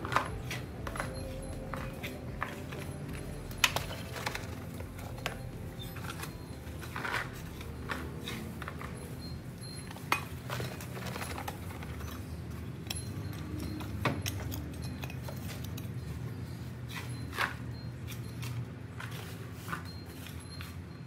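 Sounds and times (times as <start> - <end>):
clicks and sharp clinks: 0.0 - 21.0.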